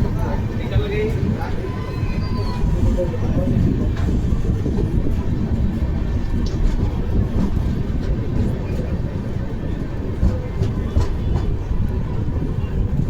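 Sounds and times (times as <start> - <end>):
train rumble inside coach: 0.0 - 13.0.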